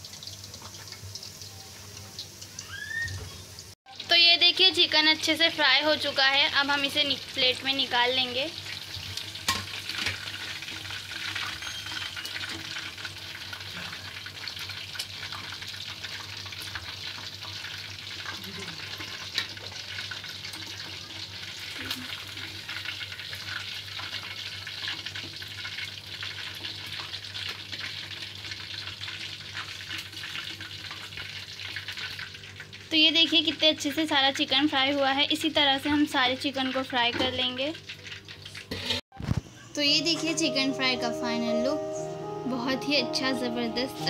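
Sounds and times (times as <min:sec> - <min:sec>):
chicken deep-frying in oil: 0:00.0 - 0:41.0.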